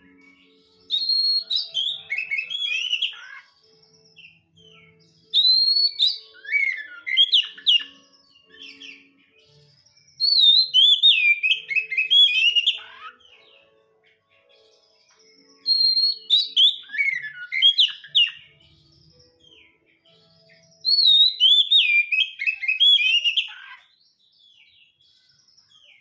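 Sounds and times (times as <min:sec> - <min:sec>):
bird singing whistled phrases: 0:00.0 - 0:13.8, 0:15.3 - 0:18.6, 0:20.7 - 0:26.0.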